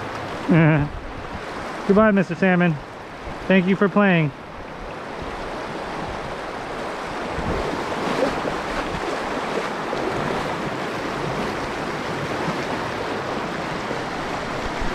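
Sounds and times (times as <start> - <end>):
river water rushing over rocks: 0.0 - 14.9.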